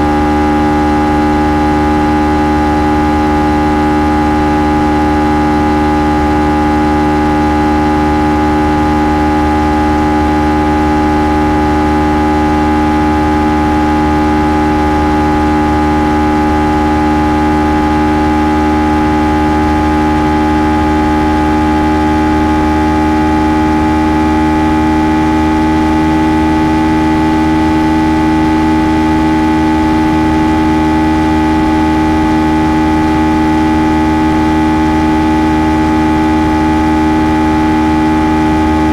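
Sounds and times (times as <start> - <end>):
motorcycle engine humming: 0.0 - 38.9.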